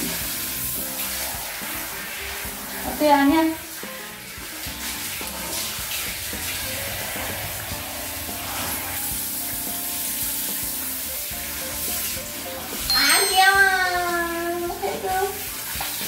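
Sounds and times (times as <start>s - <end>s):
shower head spraying water: 0.0s - 16.0s.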